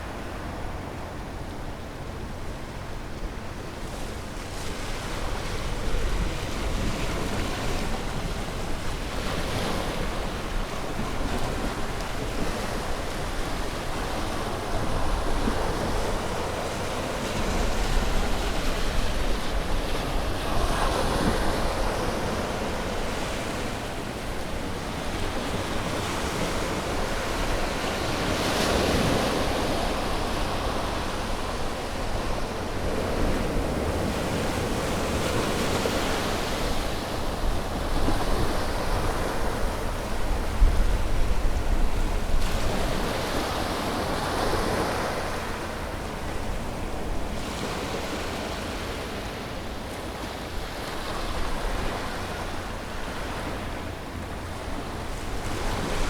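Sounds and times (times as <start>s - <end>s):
wind rumble on microphone: 0.0s - 49.4s
sea waves breaking on shore: 0.0s - 56.0s.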